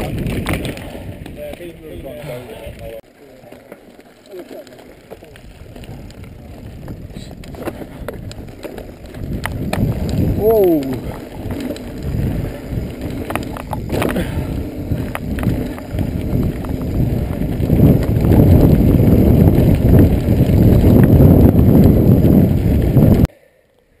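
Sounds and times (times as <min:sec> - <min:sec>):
bike rattling and knocking: 0:00.0 - 0:02.2, 0:04.0 - 0:23.3
wind buffeting microphone: 0:00.0 - 0:03.0, 0:05.2 - 0:23.3
tyres rumbling over gravel: 0:00.0 - 0:23.3.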